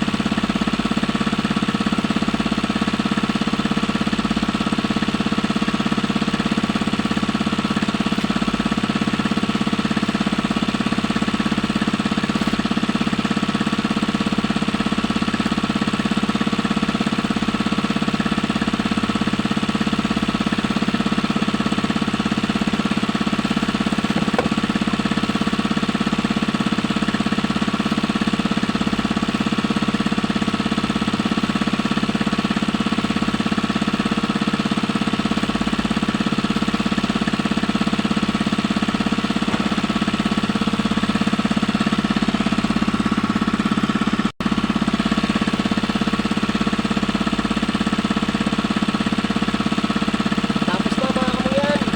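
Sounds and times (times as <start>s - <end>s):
small engine chugging: 0.0s - 51.9s.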